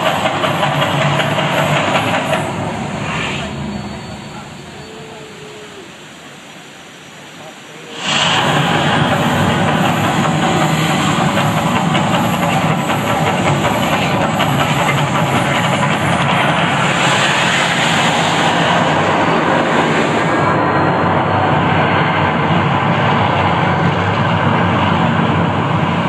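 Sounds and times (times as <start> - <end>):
volcano show rushing roar: 0.0 - 26.0.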